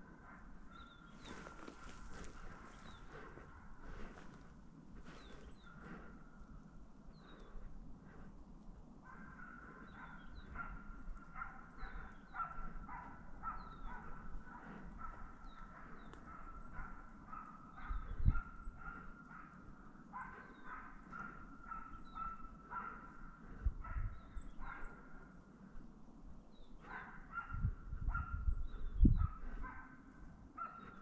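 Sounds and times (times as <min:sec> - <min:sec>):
distant dog barking: 0:00.0 - 0:06.5, 0:09.0 - 0:25.4, 0:26.8 - 0:31.0.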